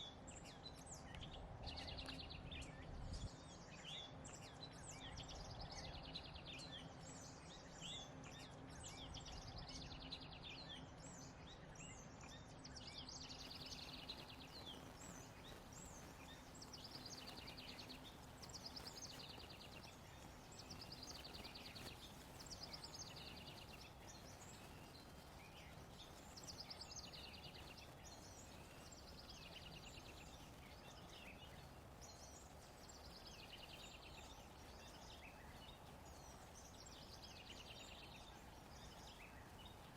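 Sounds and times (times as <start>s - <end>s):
low background noise: 0.0s - 39.9s
songbird singing faintly: 0.0s - 39.9s.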